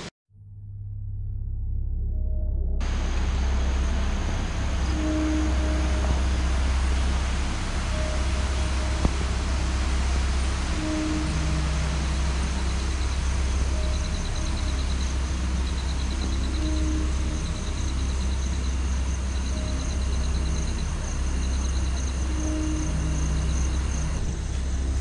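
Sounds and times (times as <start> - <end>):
low rumble: 0.0 - 25.0
insects chirping: 2.8 - 25.0.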